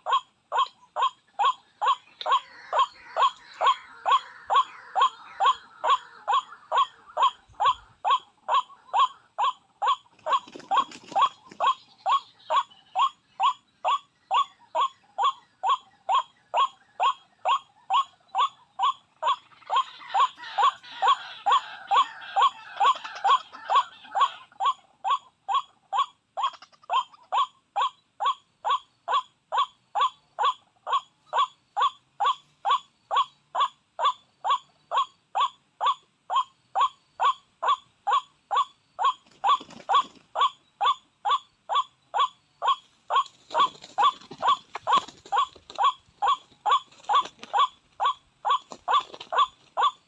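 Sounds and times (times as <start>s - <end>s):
waterhen call: 0.0s - 50.0s.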